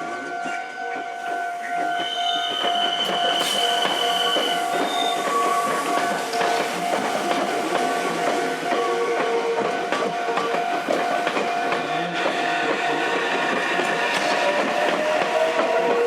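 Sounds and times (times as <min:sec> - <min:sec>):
electric train equipment whine: 0:00.0 - 0:16.0.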